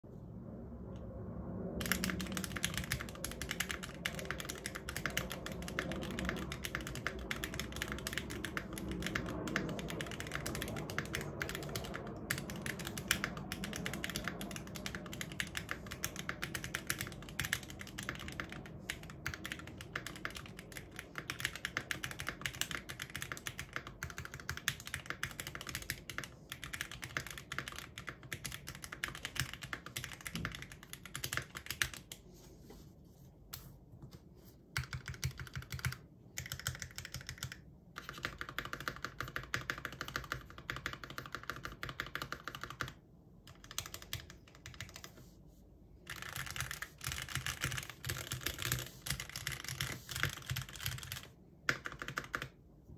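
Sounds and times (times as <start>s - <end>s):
mechanical keyboard typing: 1.8s - 32.2s, 34.8s - 45.3s, 46.0s - 52.6s.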